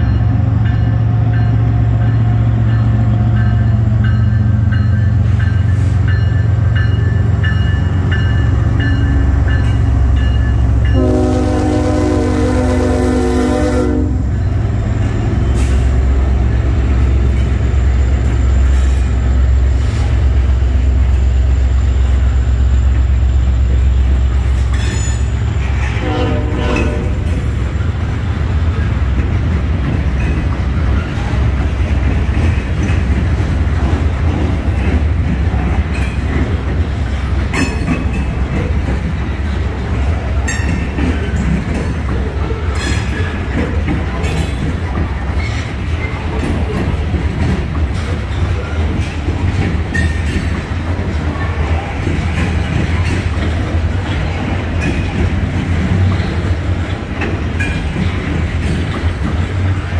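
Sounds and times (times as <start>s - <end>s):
clicking train wheels: 0.0s - 59.9s
diesel locomotive engine rumble: 0.0s - 59.9s.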